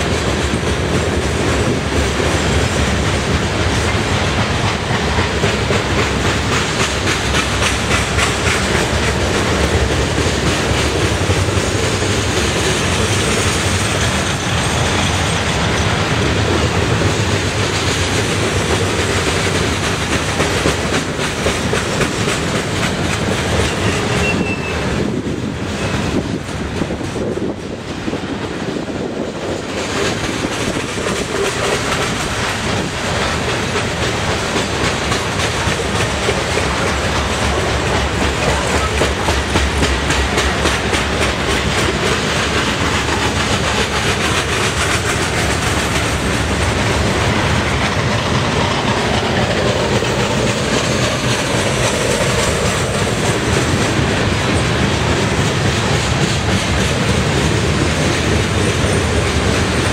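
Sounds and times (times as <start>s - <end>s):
freight train wheels rumbling on rail: 0.0s - 59.9s
rapid clickety-clack: 0.0s - 59.9s.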